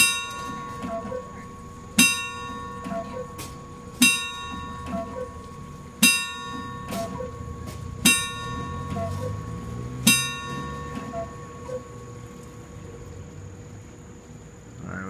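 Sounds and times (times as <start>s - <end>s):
two-note cuckoo call: 0.0s - 12.1s
clock bell strikes: 0.0s - 12.8s.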